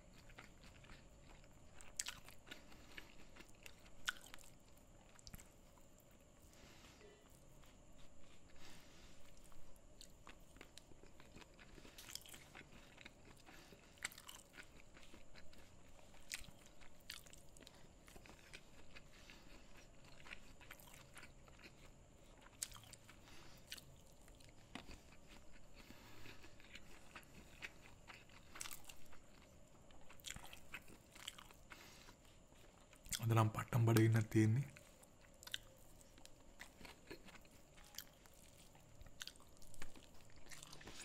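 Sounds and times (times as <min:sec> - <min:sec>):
chewing food: 0:00.0 - 0:41.0.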